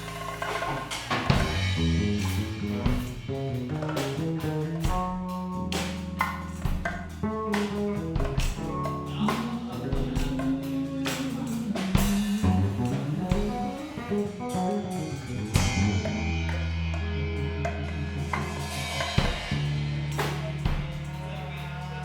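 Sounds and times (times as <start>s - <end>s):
jazz-blues band playing: 0.0s - 21.7s.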